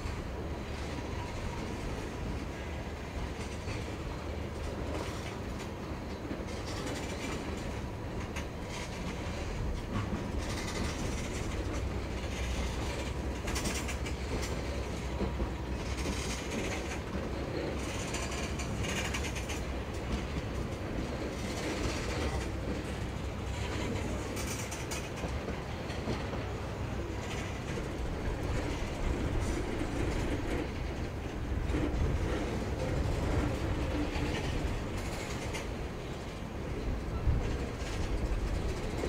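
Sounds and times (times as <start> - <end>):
freight train rumbling past: 0.0 - 39.0
wheels clattering on rails: 0.0 - 39.0.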